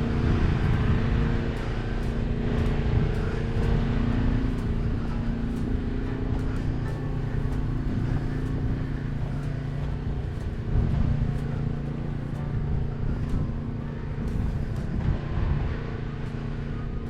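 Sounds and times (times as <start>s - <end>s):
rumbling background: 0.0s - 17.0s
vehicle engine humming: 0.0s - 17.0s.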